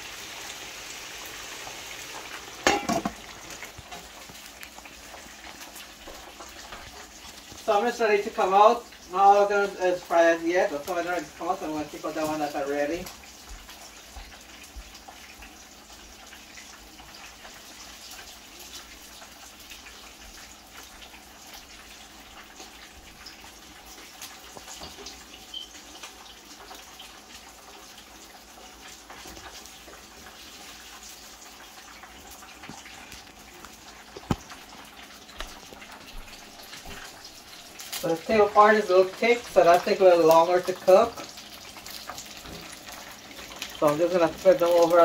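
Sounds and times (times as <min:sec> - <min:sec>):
oil sizzling in a frying pan: 0:00.0 - 0:45.0.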